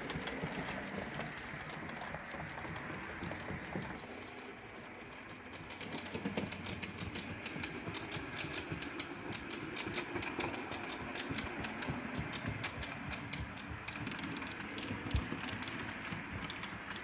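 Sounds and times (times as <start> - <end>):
model train hum: 0.0 - 17.0
wheels clicking over rail: 0.0 - 17.0.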